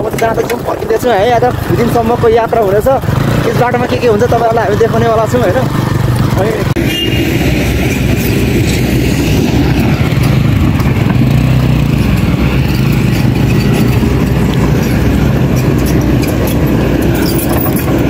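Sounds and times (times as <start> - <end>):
motorcycle engine droning: 0.0 - 18.0
road and wind noise: 0.0 - 18.0.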